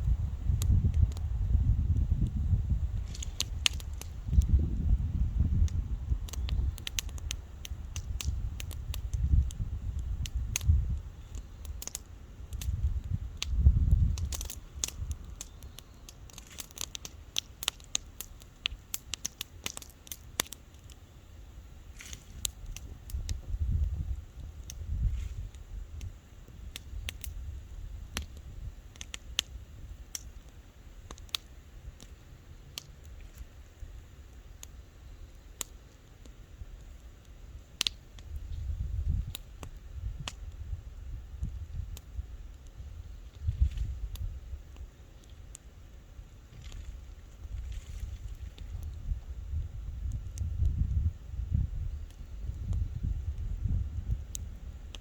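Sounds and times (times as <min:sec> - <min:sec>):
wood bonfire crackling: 0:00.0 - 0:55.0.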